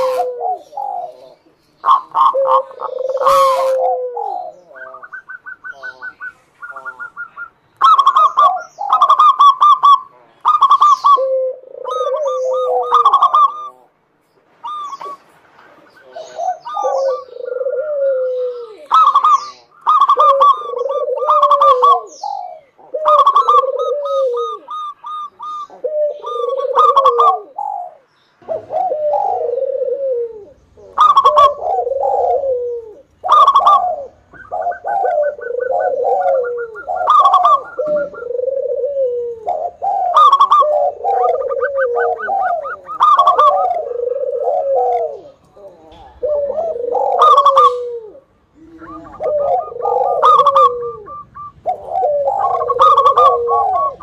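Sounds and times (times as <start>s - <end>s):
dove singing: 0.0s - 54.0s.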